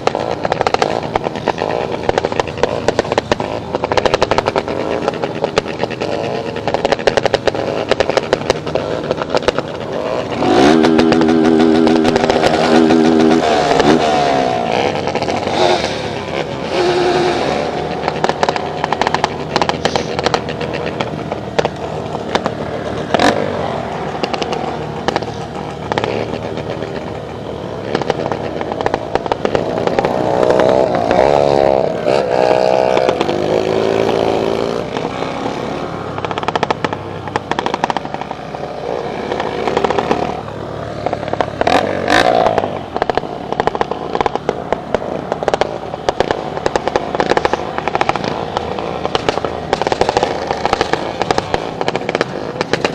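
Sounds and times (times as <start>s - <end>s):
motorcycle engines revving: 0.0s - 52.9s
sharp cracks and pops: 0.0s - 52.9s.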